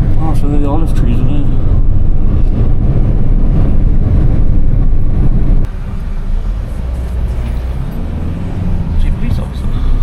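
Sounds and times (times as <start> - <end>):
bus road noise rumble: 0.0 - 10.0.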